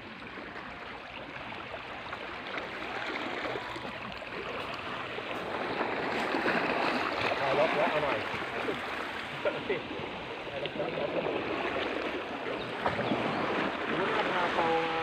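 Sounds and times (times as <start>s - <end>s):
sea water washing and splashing: 0.0s - 15.0s.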